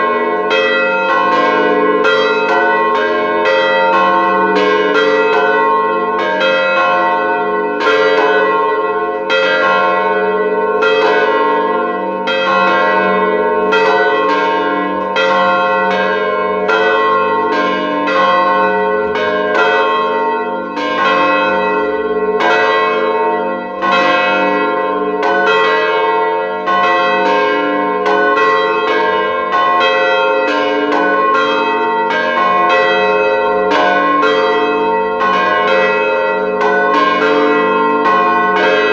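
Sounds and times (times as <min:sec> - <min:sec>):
swinging church bells ringing: 0:00.0 - 0:38.9.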